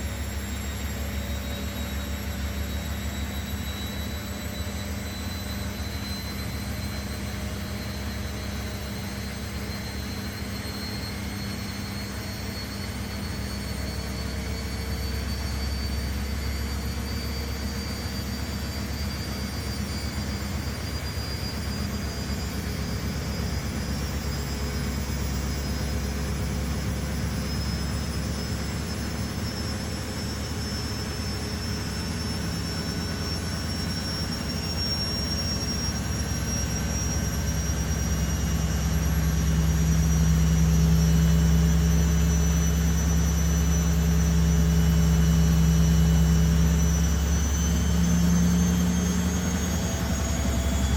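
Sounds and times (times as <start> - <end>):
washing machine spinning: 0.0 - 50.9.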